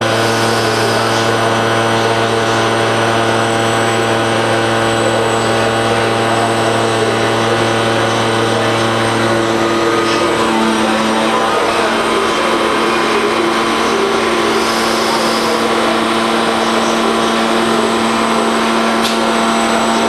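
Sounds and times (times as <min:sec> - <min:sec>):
lathe machine drone: 0:00.0 - 0:20.0.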